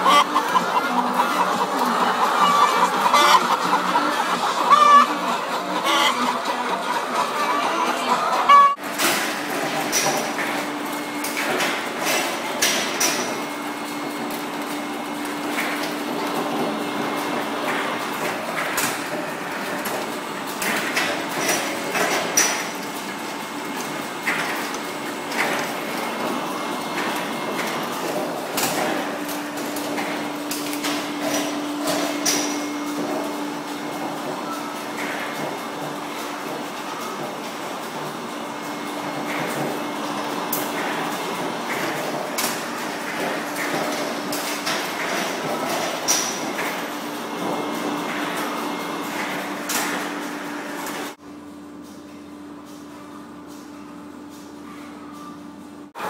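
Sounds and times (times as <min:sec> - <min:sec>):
machine whirring: 0:00.0 - 0:51.8.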